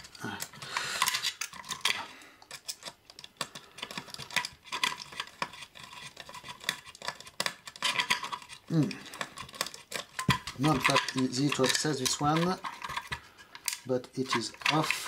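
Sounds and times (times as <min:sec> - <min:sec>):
screwdriver clicking and scraping metal: 0:00.0 - 0:15.0.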